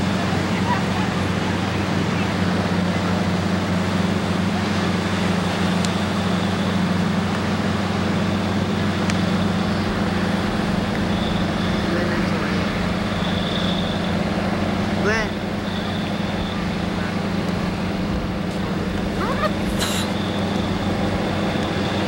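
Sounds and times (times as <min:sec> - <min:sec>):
constant low hum: 0:00.0 - 0:22.0
surf roar: 0:00.0 - 0:22.0
wind: 0:00.0 - 0:22.0.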